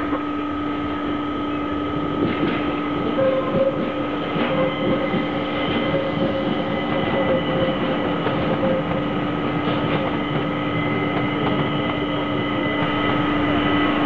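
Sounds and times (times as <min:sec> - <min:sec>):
electric train drive whine: 0:00.0 - 0:14.0
wheels rumbling on rails: 0:00.0 - 0:14.0.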